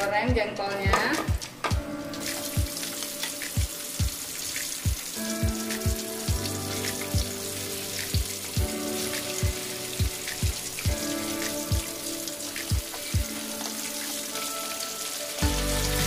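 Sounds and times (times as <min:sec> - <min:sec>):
background music with steady beat: 0:00.0 - 0:16.0
food sizzling in hot oil: 0:01.1 - 0:16.0.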